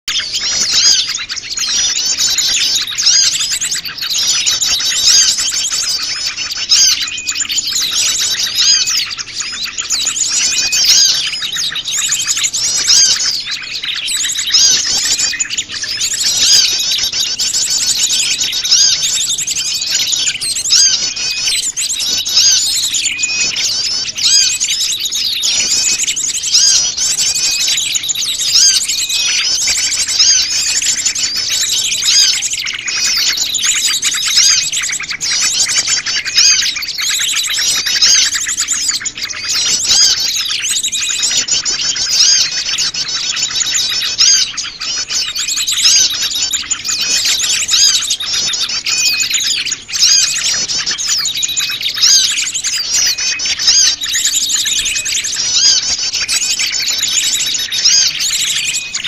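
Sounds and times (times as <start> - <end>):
wild birds chirping: 0.0 - 59.0.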